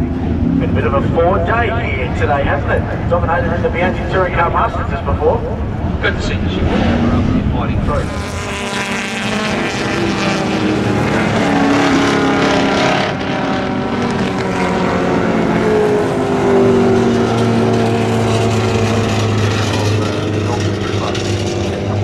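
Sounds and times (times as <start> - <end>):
deep steady engine note: 0.0 - 22.0
race car engines passing: 0.0 - 22.0.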